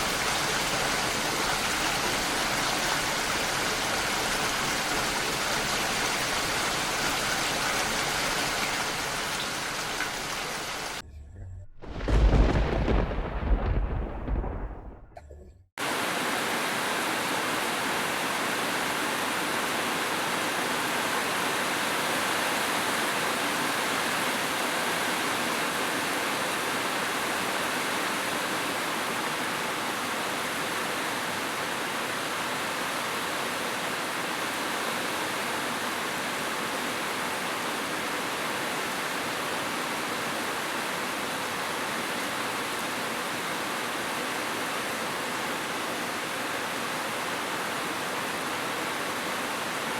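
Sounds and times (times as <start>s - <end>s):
steady rain: 0.0s - 11.0s, 11.8s - 15.1s, 15.8s - 49.9s.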